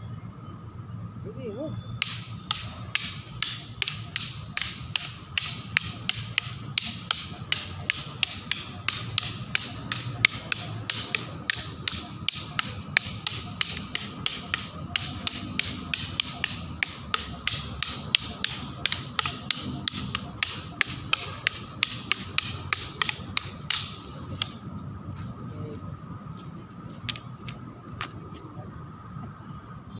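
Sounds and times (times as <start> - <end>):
practice sticks clacking: 2.0 - 24.8, 27.0 - 28.1.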